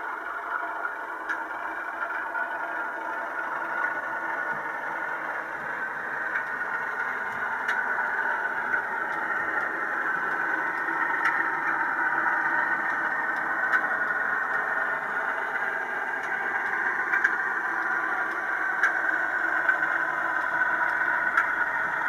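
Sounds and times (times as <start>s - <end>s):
model train running: 0.0s - 22.0s.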